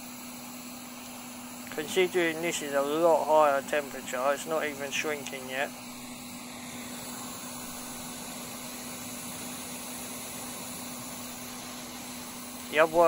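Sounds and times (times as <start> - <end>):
hot air blower hiss: 0.0 - 13.0
steady low hum: 0.0 - 13.0.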